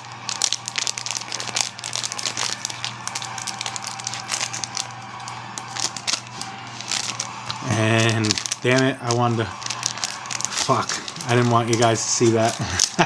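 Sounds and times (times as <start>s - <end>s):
plastic packaging crinkling: 0.0s - 13.0s
steady low hum: 0.0s - 13.0s.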